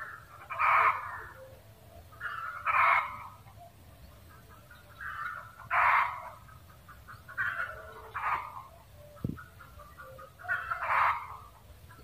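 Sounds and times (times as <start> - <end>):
junglefowl clucking calls: 0.0 - 12.0.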